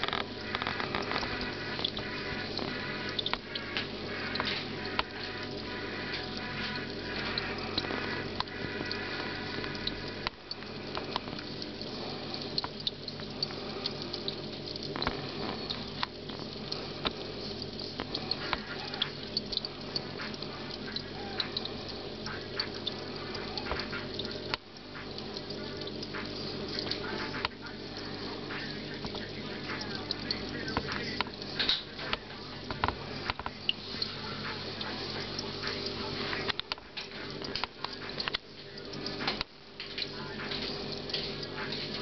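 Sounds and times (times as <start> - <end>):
aquarium pump humming: 0.0 - 42.0
small clicks and ticks: 0.0 - 42.0
water trickling: 0.0 - 42.0.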